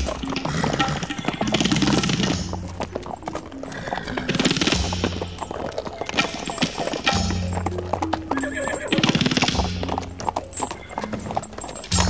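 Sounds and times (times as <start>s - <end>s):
horses galloping hoofbeats: 0.0s - 12.0s.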